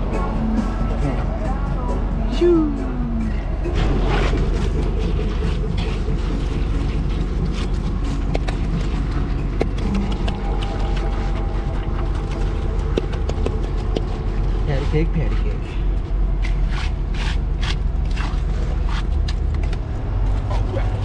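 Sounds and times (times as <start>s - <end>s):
machinery rumbling: 0.0s - 21.0s.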